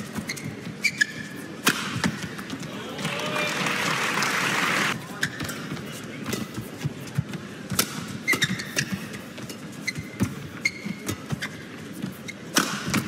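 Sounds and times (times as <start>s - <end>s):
shoes squeaking on court: 0.0s - 2.6s, 5.1s - 13.0s.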